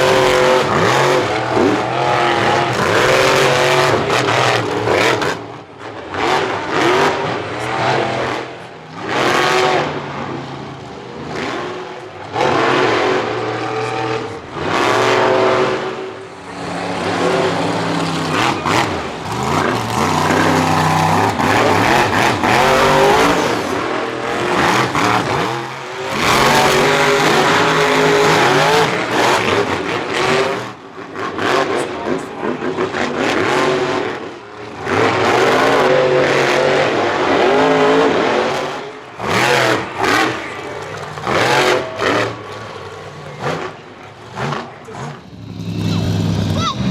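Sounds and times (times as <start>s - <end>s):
monster truck engines revving: 0.0s - 46.9s.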